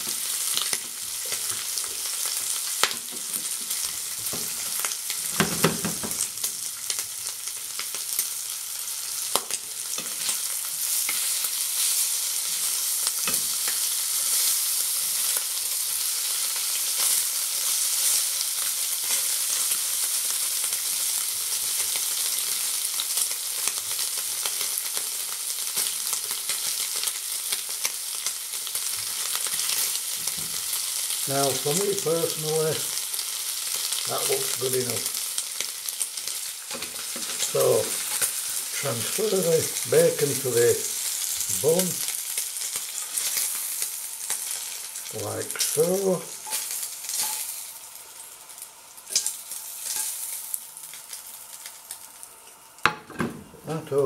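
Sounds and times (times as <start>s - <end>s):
bacon sizzling in a frying pan: 0.0s - 54.0s.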